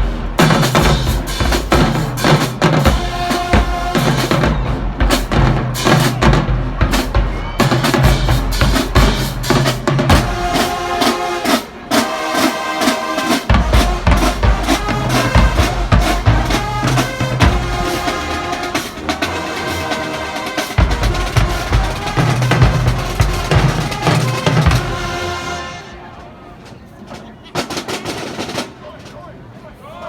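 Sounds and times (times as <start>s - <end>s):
bass and snare drums: 0.0s - 25.5s, 27.6s - 29.2s
brass chords: 0.0s - 26.6s
marching band playing: 0.0s - 29.2s.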